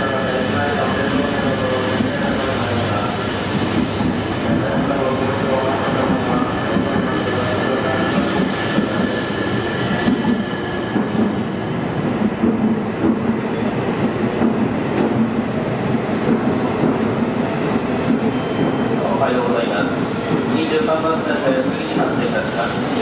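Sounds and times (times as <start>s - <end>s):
train wheels rolling: 0.0s - 23.0s.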